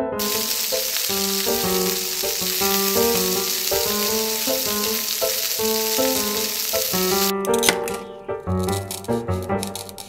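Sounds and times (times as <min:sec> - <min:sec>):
food sizzling in a pan: 0:00.2 - 0:07.3, 0:08.7 - 0:10.0.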